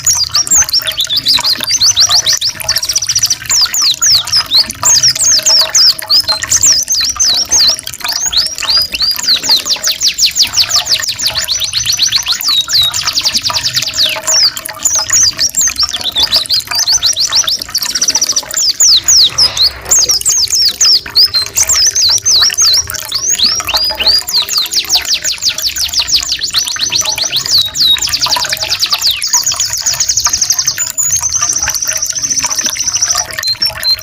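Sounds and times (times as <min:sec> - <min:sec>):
songbirds trilling: 0:00.0 - 0:34.0
trickling water: 0:00.0 - 0:34.0.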